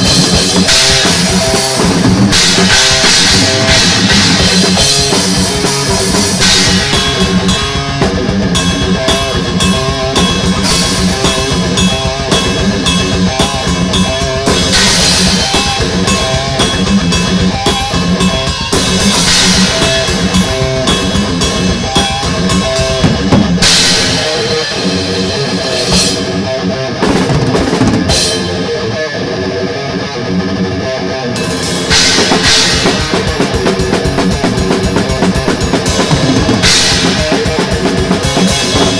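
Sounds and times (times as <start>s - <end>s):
fast drum kit: 0.0s - 29.0s, 31.4s - 38.9s
distorted electric guitar: 0.0s - 38.9s
thrash metal band: 0.0s - 38.9s.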